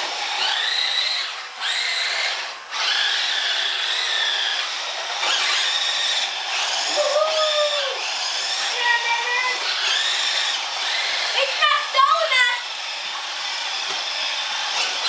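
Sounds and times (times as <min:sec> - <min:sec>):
toy truck electric motors whining: 0:00.0 - 0:15.0.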